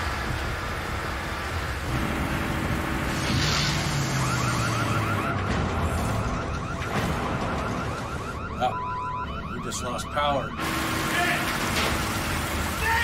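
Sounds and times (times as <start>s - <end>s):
machinery and rushing noise: 0.0s - 13.0s.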